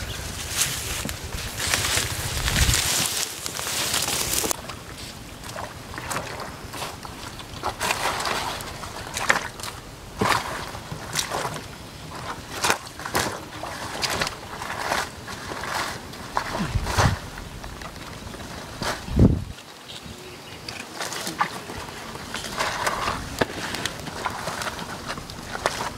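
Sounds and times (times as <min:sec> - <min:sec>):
leaves brushing: 0:00.0 - 0:25.9
wading through muddy water: 0:00.0 - 0:25.9.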